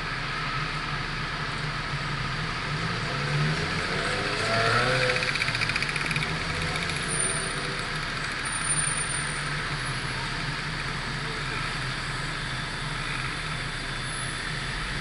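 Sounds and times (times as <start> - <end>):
car tyre and engine noise: 0.0 - 15.0.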